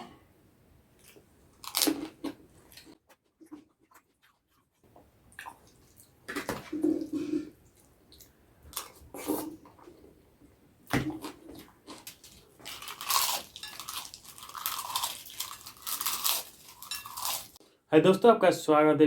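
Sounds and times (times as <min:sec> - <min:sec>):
chewing and crunching crisp food: 0:01.0 - 0:10.1, 0:11.0 - 0:17.6.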